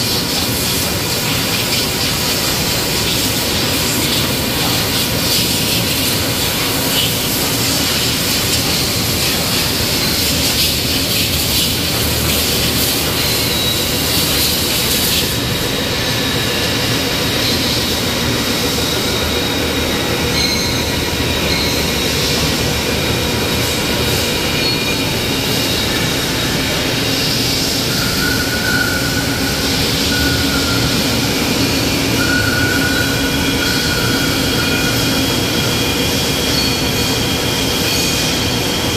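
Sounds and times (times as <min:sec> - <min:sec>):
compressed air hissing: 0:00.0 - 0:36.3
high machine whine: 0:00.0 - 0:38.9
machine shop noise: 0:00.0 - 0:38.9.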